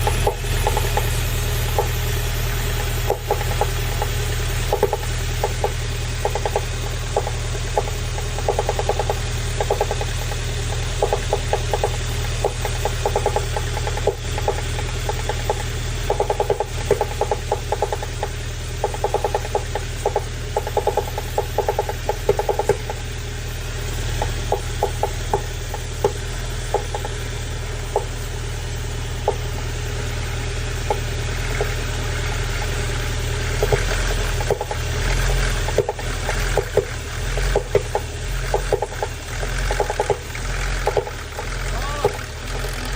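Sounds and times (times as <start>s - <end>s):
engine hum: 0.0s - 42.9s
engine ticking: 0.0s - 42.9s.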